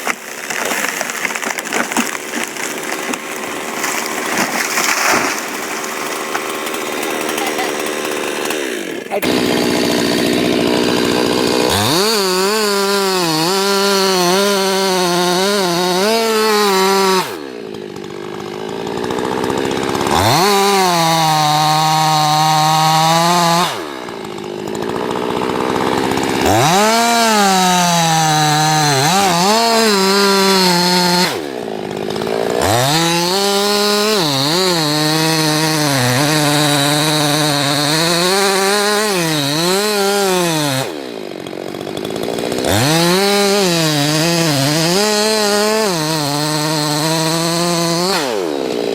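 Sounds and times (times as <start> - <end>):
chainsaw cutting tree trunk: 0.0 - 48.9.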